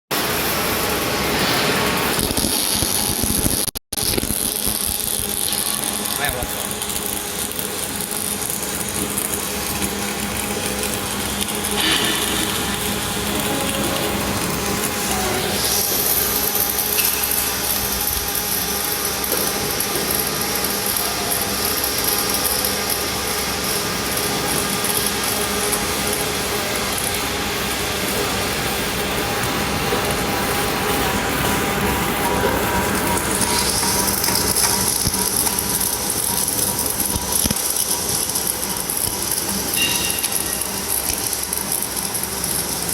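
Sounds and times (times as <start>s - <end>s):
welding arc crackling hiss: 0.1s - 42.9s
workshop noise: 0.1s - 42.9s.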